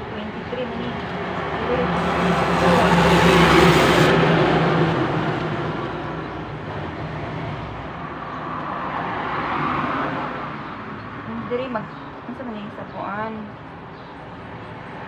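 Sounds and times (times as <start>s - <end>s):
vehicle passing on road: 0.0s - 13.0s
traffic noise: 0.0s - 15.0s.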